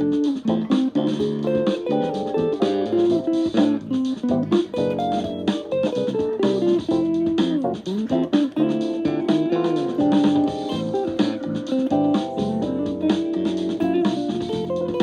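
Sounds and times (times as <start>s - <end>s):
solo guitar with string bends: 0.0s - 15.0s.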